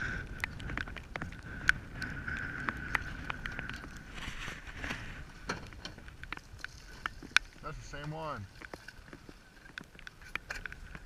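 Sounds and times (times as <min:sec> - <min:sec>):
raindrops striking close: 0:00.0 - 0:11.0.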